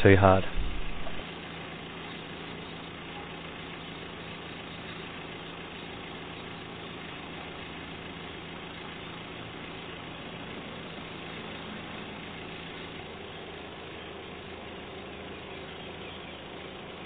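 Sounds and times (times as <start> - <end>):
drill rig engine running: 0.0 - 17.0.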